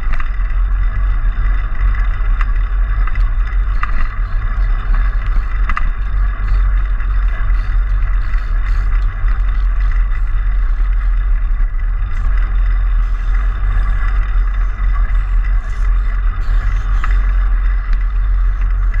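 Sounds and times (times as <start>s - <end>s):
bicycle rolling over paving: 0.0s - 19.0s.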